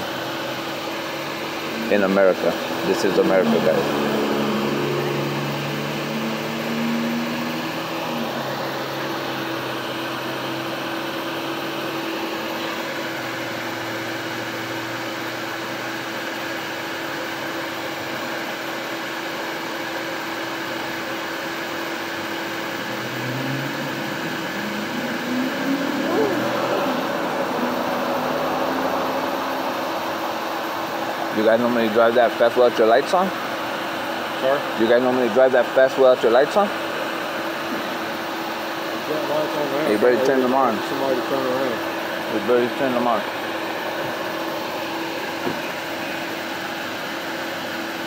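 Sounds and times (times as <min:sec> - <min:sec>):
low engine note shifting pitch: 0:00.0 - 0:16.2, 0:20.6 - 0:46.6
vehicle engines idling: 0:00.0 - 0:48.0.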